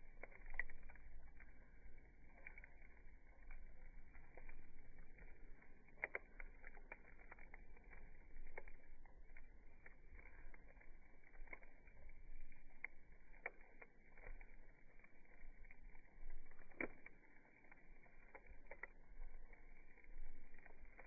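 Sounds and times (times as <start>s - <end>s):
campfire crackling and popping: 0.0s - 21.0s
faint low rumble: 0.0s - 21.0s.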